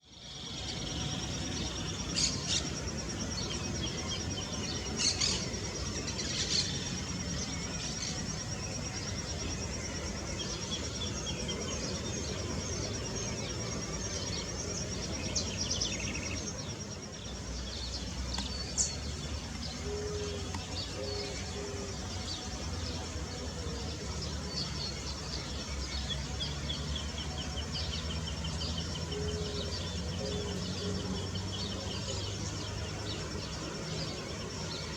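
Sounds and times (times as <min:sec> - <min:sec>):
pulsing insect trill: 0:00.0 - 0:34.9.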